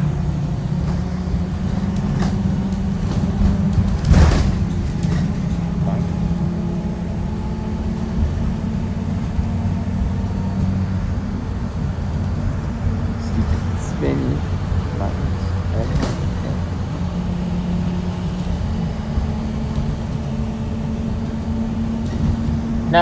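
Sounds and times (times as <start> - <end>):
bus engine hum and road noise: 0.0 - 23.0.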